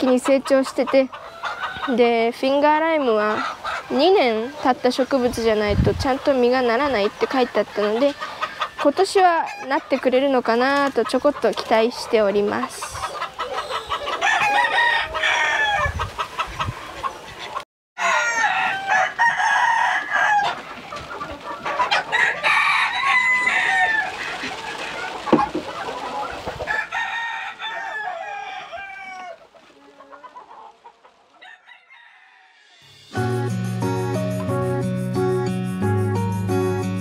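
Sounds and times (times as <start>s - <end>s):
hens clucking and calling: 0.0s - 32.2s.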